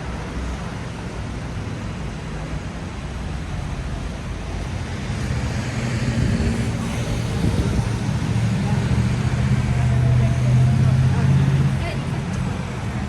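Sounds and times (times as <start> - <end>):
steady traffic noise: 0.0 - 13.0
vehicle engine hum passing: 0.0 - 13.0.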